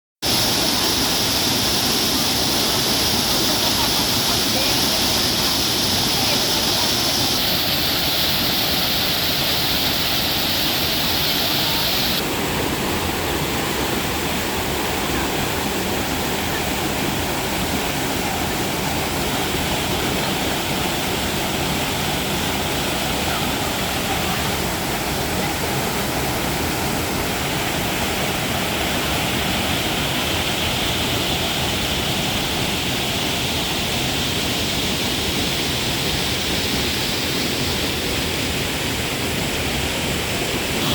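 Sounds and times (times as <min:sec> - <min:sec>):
water rushing over small waterfall: 0:00.2 - 0:40.9.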